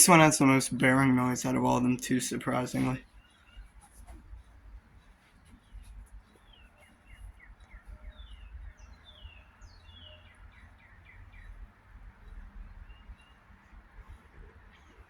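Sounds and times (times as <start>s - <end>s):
small birds chirping: 0.0s - 3.9s, 4.6s - 15.0s.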